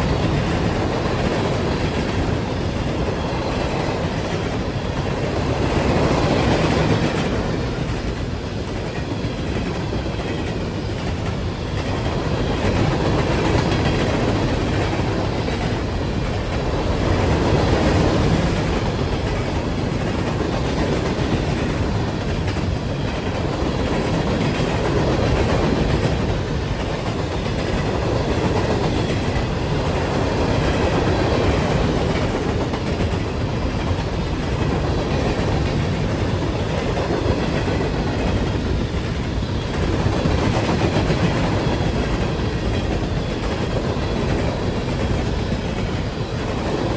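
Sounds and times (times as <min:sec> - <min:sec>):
train rumbling past: 0:00.0 - 0:46.9.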